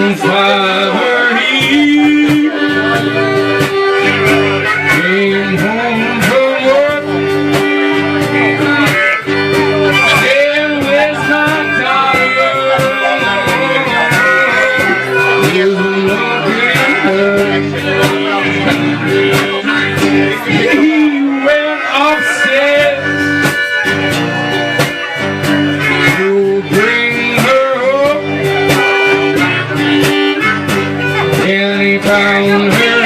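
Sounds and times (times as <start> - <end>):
acoustic guitar strumming: 0.0 - 33.0
sustained melody line: 0.0 - 33.0.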